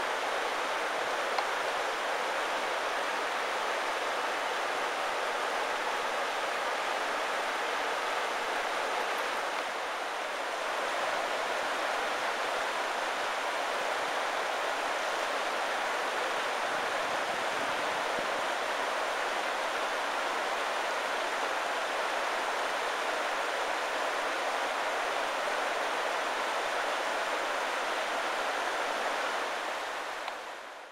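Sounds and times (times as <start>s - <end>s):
river water rushing over rocks: 0.0s - 30.9s.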